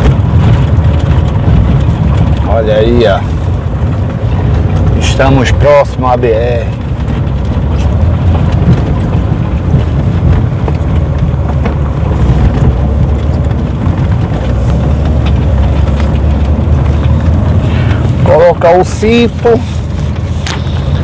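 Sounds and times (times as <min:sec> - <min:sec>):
car rumbling on dirt road: 0:00.0 - 0:21.0.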